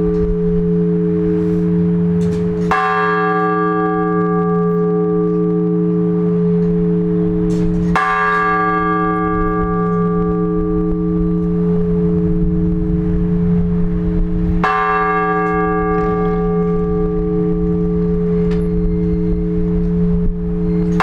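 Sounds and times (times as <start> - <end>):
large church bell tolling: 0.0 - 21.0.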